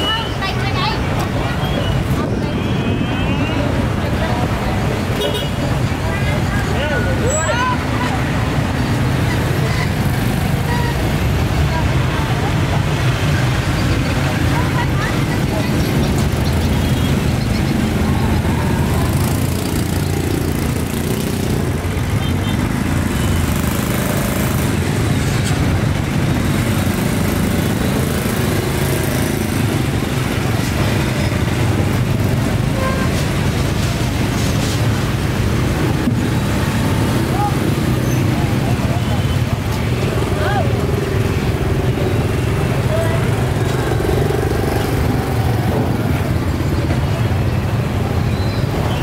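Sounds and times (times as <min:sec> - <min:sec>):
motorbike engines passing: 0:00.0 - 0:49.0
street traffic: 0:00.0 - 0:49.0.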